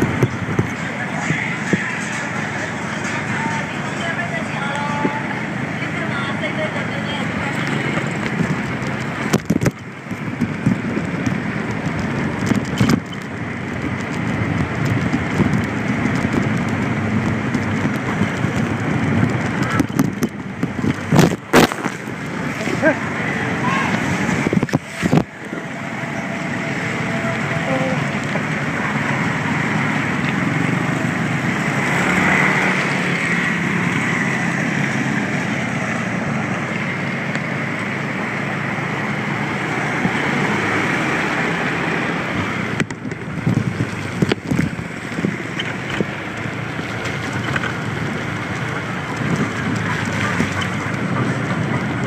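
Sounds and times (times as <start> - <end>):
wind on microphone: 0.0 - 3.6, 7.2 - 52.0
moped engine running: 0.0 - 52.0.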